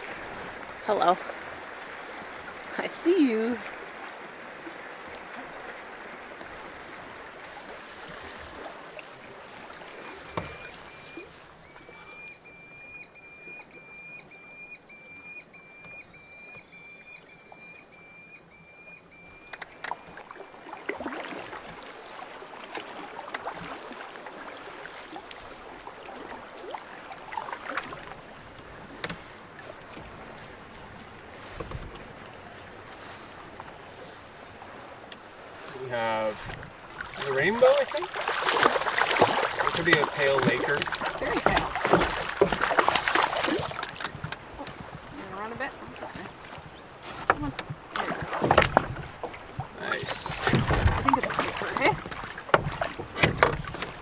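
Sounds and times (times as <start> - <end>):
paddle strokes and splashes: 0.0 - 54.0.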